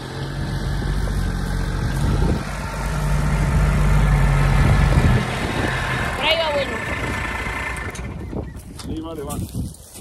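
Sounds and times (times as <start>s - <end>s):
diesel engine idling: 0.0s - 8.8s.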